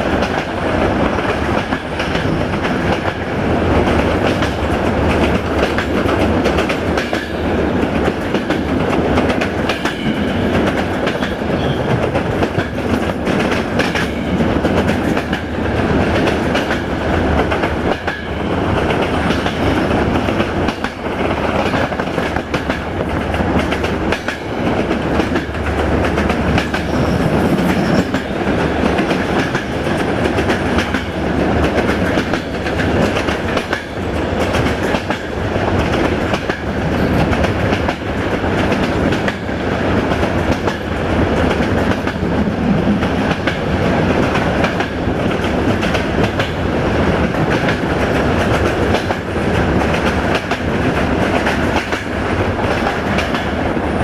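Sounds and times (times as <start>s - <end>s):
train wheels clattering over rails: 0.0s - 54.0s.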